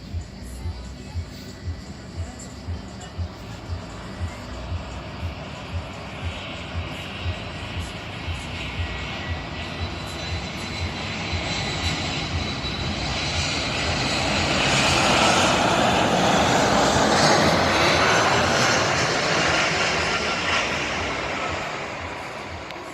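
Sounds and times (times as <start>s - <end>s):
airliner engines passing: 0.0s - 22.9s.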